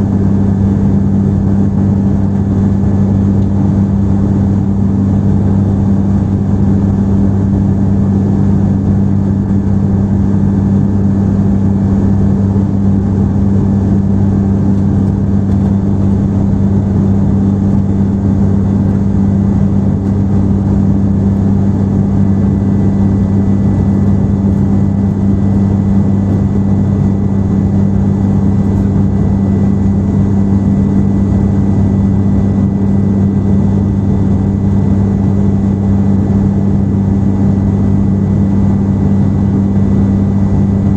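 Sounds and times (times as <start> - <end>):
airliner cabin engine drone: 0.0 - 40.9.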